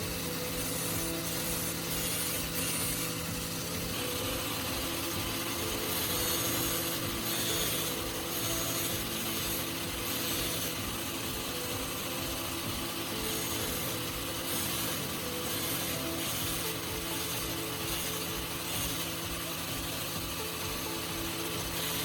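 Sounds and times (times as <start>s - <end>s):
drill bit grinding rasp: 0.0s - 22.0s
grinding wheel motor hum: 0.0s - 22.0s.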